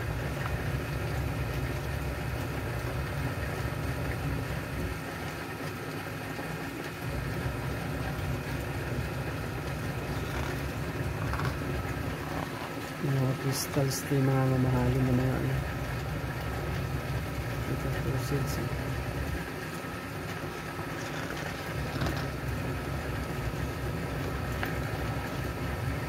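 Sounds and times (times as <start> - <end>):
low machine rumble: 0.0 - 26.0.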